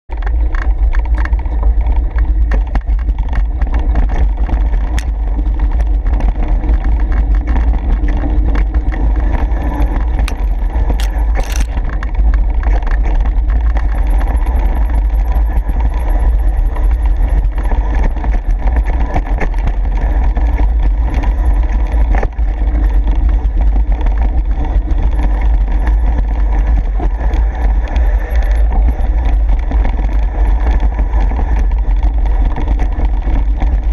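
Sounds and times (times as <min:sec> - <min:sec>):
bike rattling and clicking: 0:00.1 - 0:33.9
mountain bike rumbling on dirt: 0:00.1 - 0:33.9.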